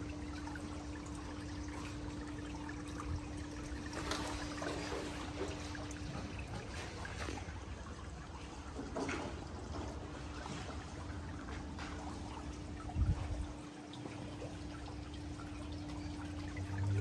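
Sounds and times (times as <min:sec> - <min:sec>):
steady low hum: 0:00.0 - 0:17.0
water trickling and splashing: 0:00.0 - 0:17.0.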